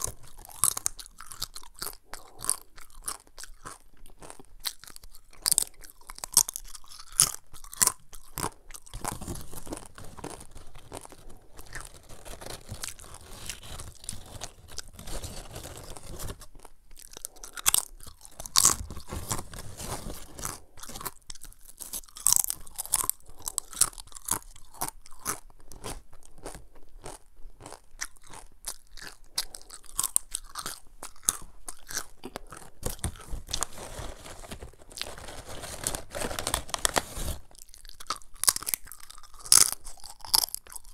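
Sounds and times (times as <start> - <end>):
crunchy chips being chewed: 0.0 - 40.9.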